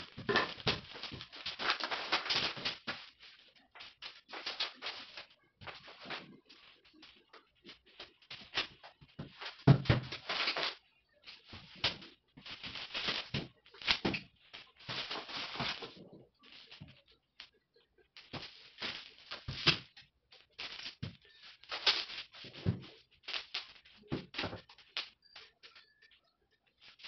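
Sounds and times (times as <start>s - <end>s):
plastic sheeting rustling: 0.0s - 17.1s, 18.2s - 25.8s.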